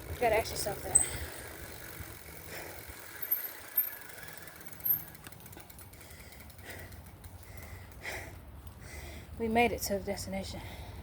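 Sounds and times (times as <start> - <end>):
bicycle rumbling: 0.0 - 11.0.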